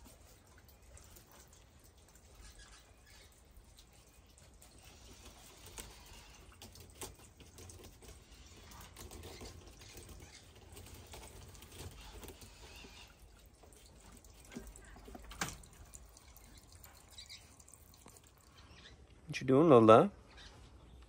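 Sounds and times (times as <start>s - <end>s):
claws clicking and scratching on rope: 0.0s - 18.4s.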